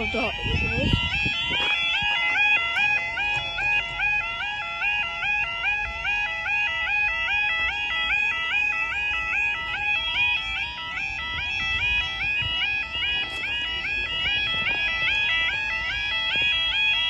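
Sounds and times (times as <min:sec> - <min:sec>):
level crossing warning alarm: 0:00.0 - 0:17.0.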